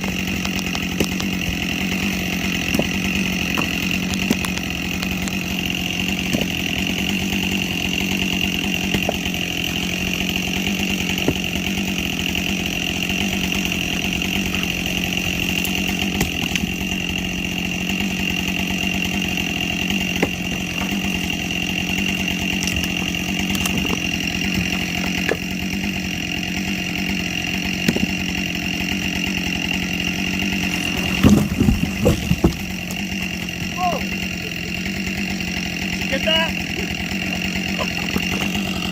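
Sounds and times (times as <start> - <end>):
chainsaw running at high speed: 0.0 - 38.9.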